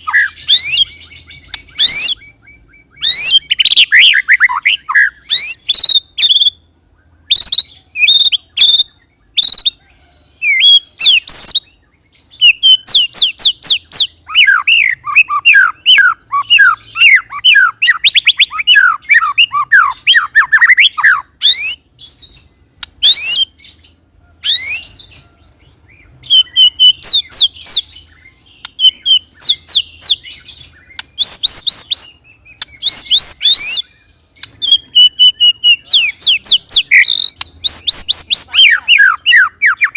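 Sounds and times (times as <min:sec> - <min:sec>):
bird singing whistling song: 0:00.0 - 0:39.9.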